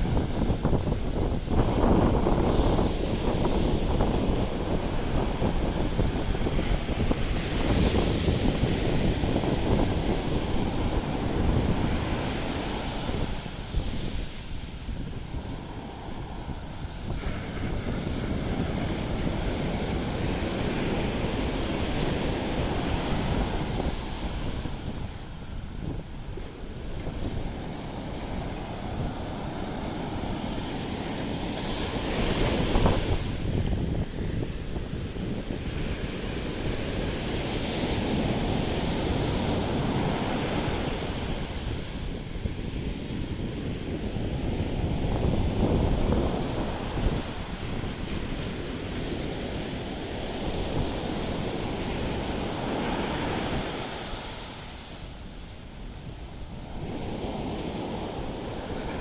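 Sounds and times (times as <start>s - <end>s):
sea waves breaking on beach: 0.0s - 59.0s
wind on microphone: 0.0s - 59.0s.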